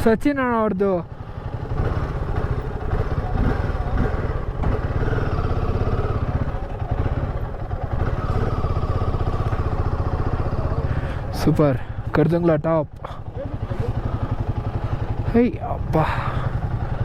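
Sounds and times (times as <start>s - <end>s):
motorcycle engine running: 0.8s - 17.0s.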